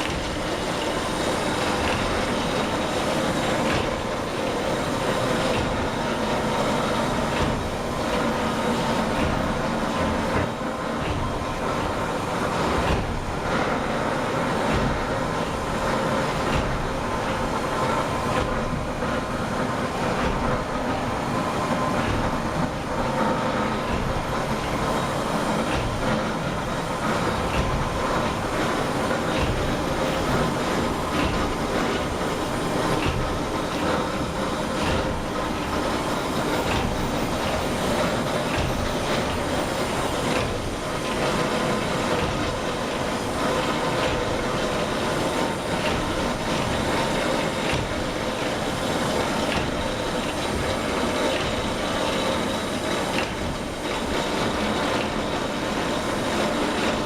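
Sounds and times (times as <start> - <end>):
steam engine clatter and hum: 0.0 - 57.0.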